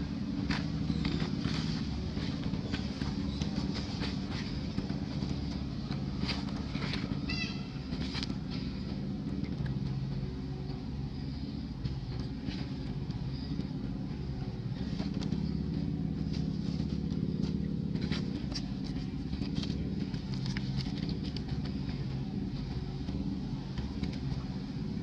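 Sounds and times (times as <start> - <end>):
motor engine hum: 0.0 - 25.0.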